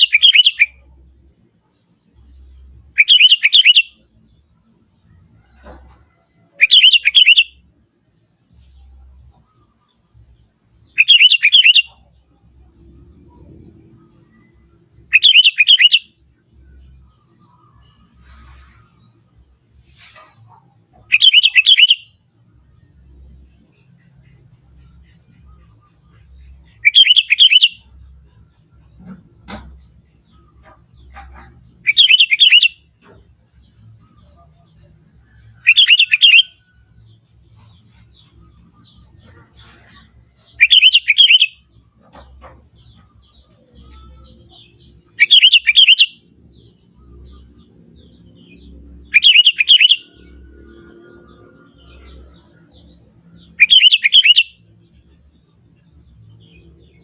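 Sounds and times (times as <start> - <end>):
bird singing rapid chirps: 0.0 - 5.7, 6.3 - 57.0.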